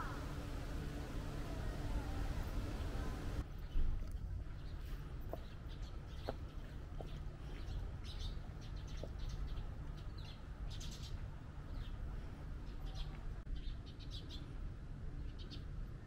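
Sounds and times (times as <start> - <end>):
small birds chirping: 0.0 - 14.6
low background rumble: 0.0 - 16.0.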